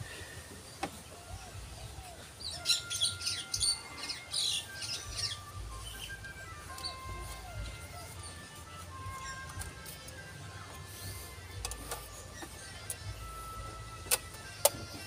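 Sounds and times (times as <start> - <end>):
faint background music: 0.0 - 15.0
small birds chirping: 0.0 - 15.0.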